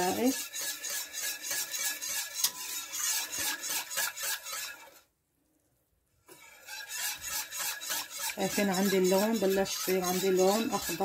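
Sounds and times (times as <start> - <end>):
wire whisk scraping a pot: 0.0 - 5.1, 6.2 - 11.0.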